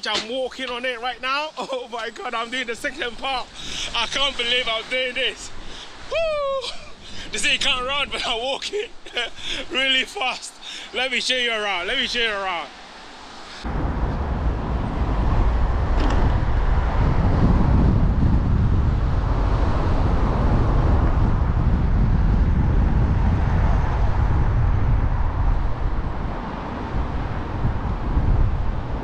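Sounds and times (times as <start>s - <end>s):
wind buffeting microphone: 2.1s - 9.8s, 13.4s - 29.0s.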